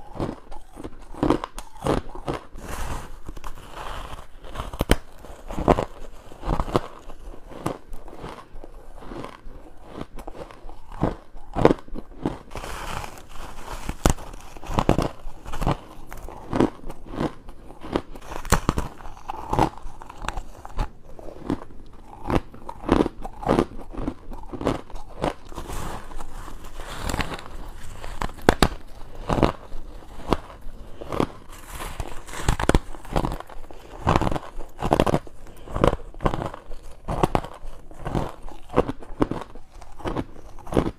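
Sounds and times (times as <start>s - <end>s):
crunching ice between teeth: 0.0s - 40.9s.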